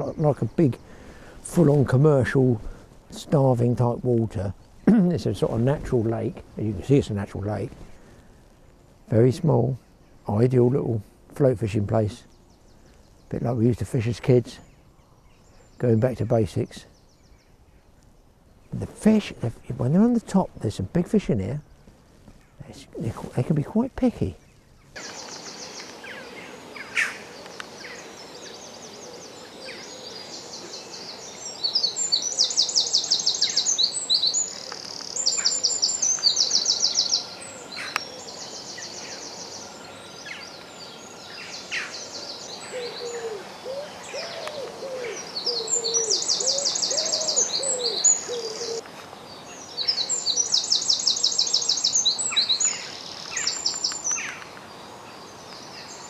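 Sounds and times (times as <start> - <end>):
birds trilling song: 0.0 - 56.0
soft low bird calls: 0.0 - 56.0.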